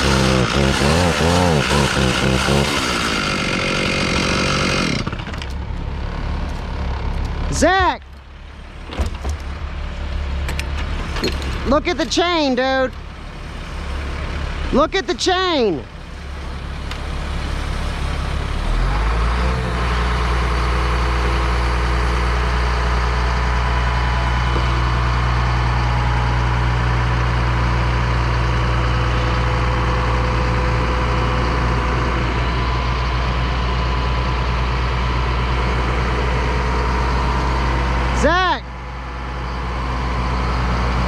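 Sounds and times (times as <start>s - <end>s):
heavy diesel engine rumbling: 0.0s - 41.0s.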